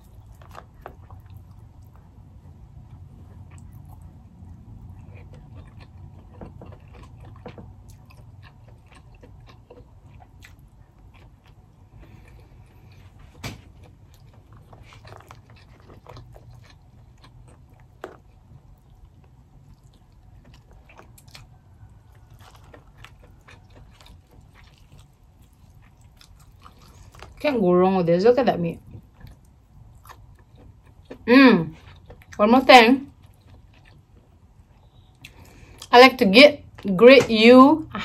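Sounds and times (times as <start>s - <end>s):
soft chewing: 0.0s - 27.6s, 28.6s - 36.0s
low steady hum: 0.0s - 38.0s.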